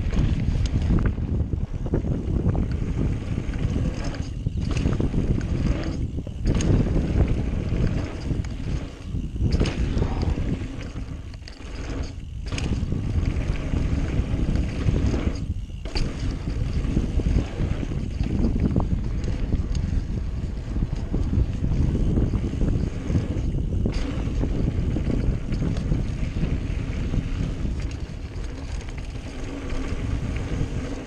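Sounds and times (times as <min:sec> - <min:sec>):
bike clicks and rattles: 0:00.0 - 0:31.0
tyres rumbling on dirt: 0:00.0 - 0:31.0
wind rushing over microphone: 0:00.0 - 0:31.0.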